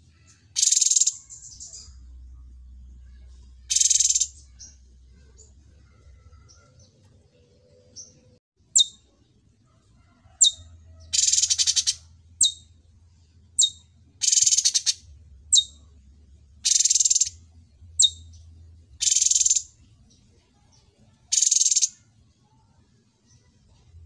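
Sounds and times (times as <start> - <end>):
bird chip notes and trills: 0.0 - 9.2, 13.5 - 24.0.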